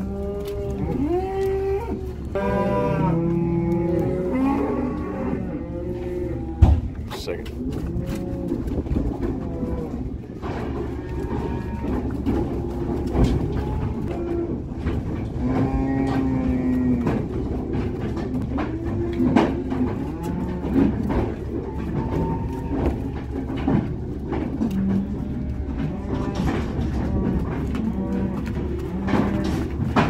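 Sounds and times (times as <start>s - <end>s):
cows mooing: 0.0s - 30.0s.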